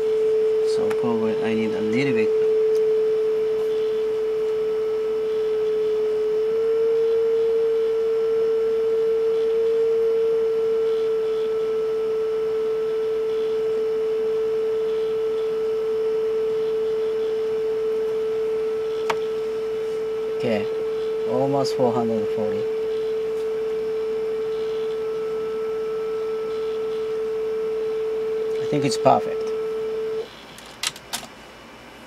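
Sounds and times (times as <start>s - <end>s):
steady pure test tone: 0.0s - 31.0s.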